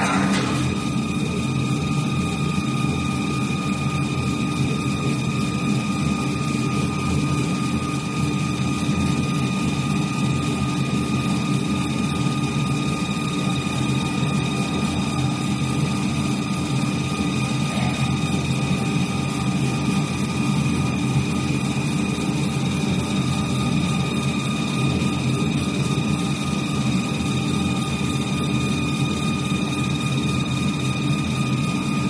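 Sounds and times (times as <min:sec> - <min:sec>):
high machine whine: 0:00.0 - 0:32.0.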